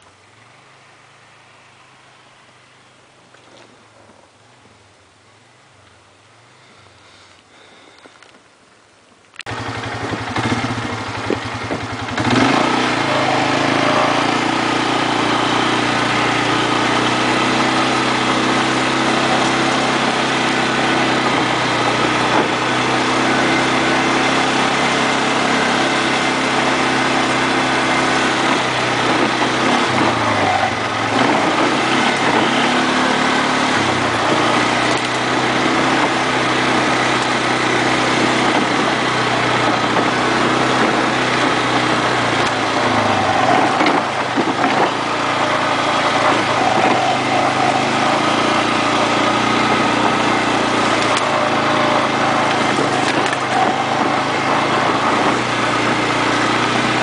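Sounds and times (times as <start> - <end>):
atv engine running: 9.4 - 57.0.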